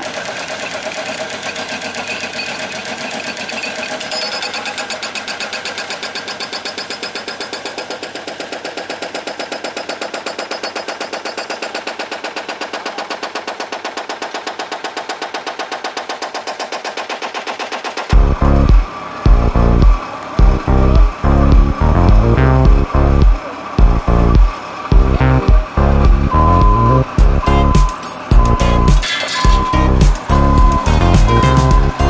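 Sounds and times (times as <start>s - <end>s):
hydraulic breaker pounding road: 0.0s - 32.0s.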